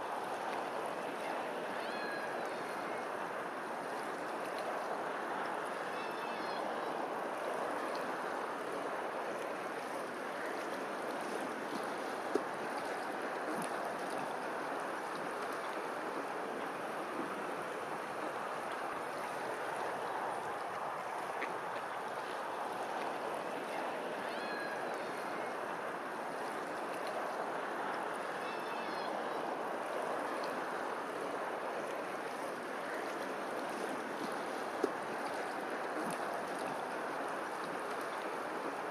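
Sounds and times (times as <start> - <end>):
rushing flowing water: 0.0 - 38.9.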